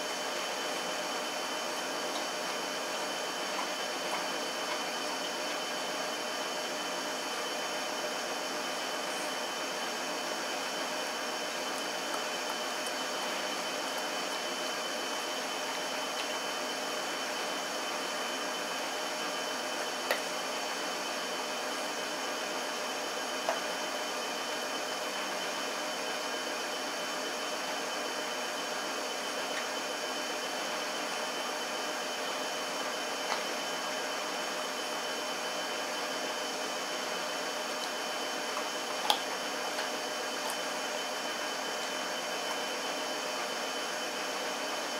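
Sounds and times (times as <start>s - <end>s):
mechanical hum and hiss: 0.0s - 44.9s.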